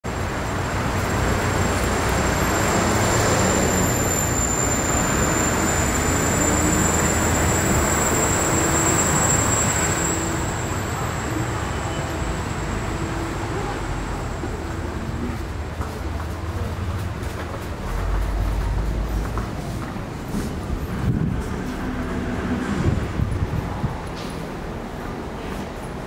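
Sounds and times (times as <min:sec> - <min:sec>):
passing cars: 0:00.1 - 0:26.0.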